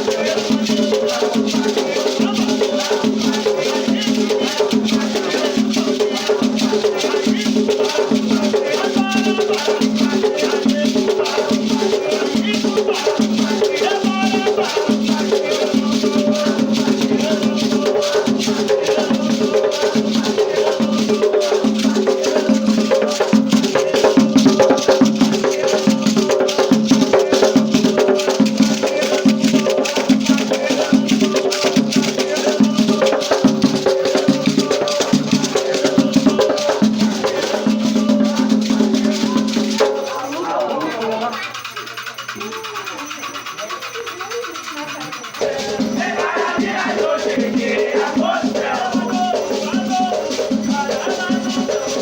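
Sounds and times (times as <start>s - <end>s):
chanted singing: 0.0s - 52.0s
rhythmic drum pulse: 0.0s - 52.0s
shaken rattles: 0.0s - 52.0s.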